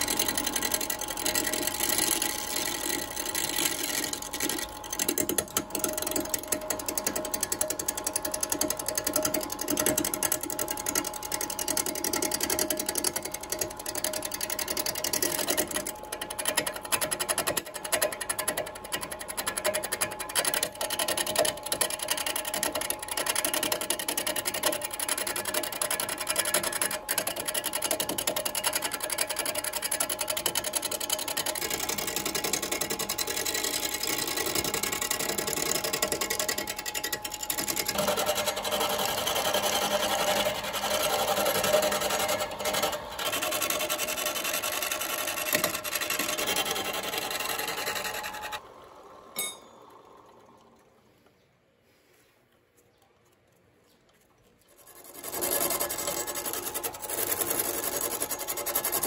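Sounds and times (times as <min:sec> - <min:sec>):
turning tool scraping wood: 0:00.0 - 0:48.6, 0:54.6 - 0:59.0
wood lathe humming: 0:00.0 - 0:50.8, 0:54.8 - 0:59.0.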